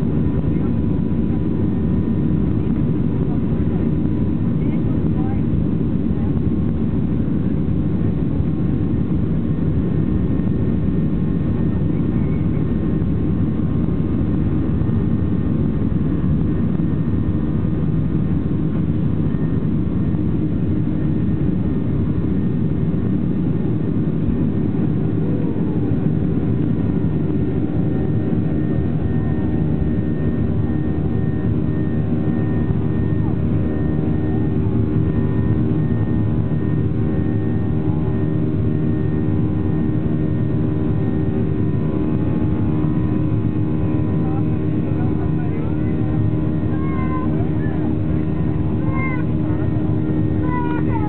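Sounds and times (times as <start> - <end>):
jet engines droning: 0.0 - 51.0.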